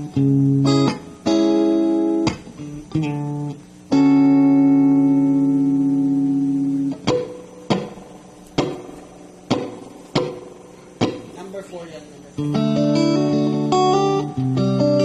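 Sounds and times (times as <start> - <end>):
electric guitar chords: 0.0 - 11.6, 12.2 - 15.0.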